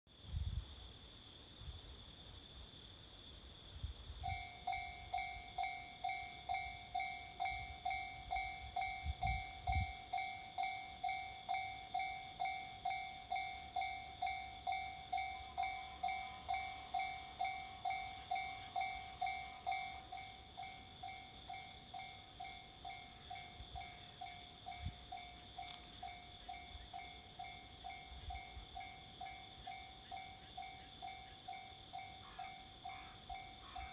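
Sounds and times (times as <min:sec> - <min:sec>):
level crossing warning bell: 0:04.2 - 0:33.9
steady high tone: 0:04.2 - 0:33.9.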